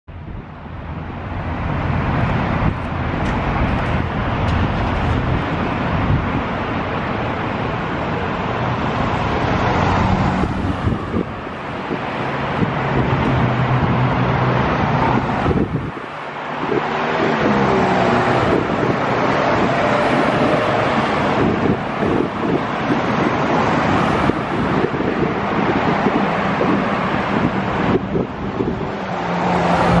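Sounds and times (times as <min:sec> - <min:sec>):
street traffic driving past: 0:00.1 - 0:30.0.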